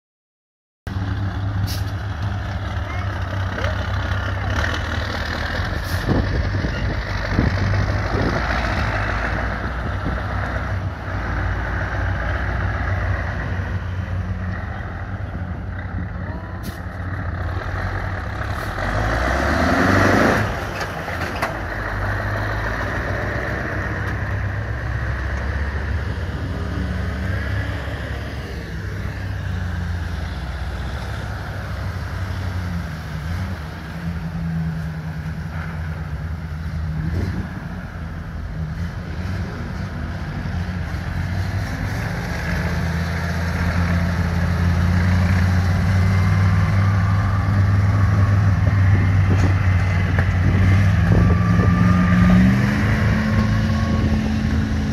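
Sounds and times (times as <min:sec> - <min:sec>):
truck engines labouring: 0:00.9 - 0:54.9.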